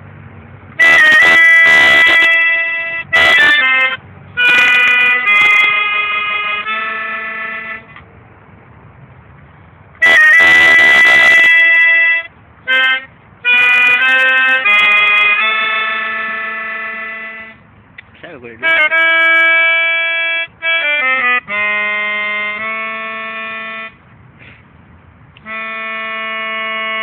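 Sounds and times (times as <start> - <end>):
reedy wind instrument chords: 0.7 - 8.0, 9.9 - 27.0.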